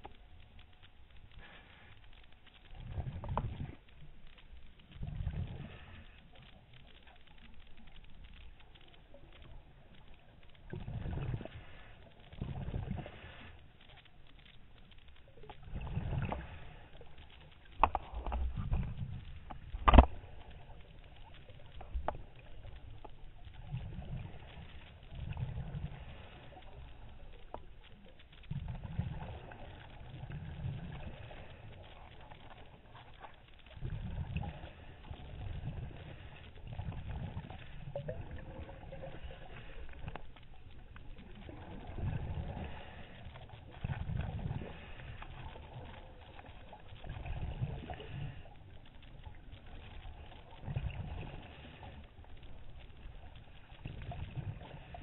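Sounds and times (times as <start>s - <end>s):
muffled underwater rumbles: 0.0s - 55.0s.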